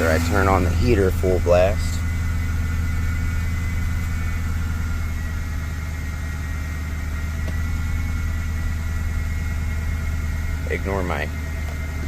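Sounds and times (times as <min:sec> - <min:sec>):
car engine idling: 0:00.0 - 0:12.0
faint high whine: 0:00.0 - 0:12.0.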